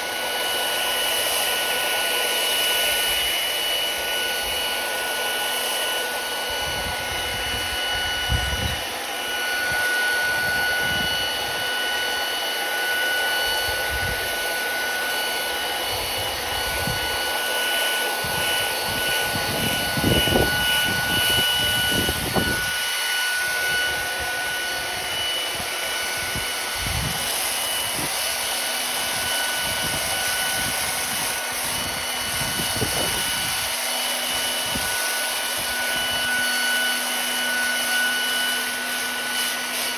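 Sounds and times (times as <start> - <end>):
sandblaster hissing with motor whine: 0.0 - 39.9.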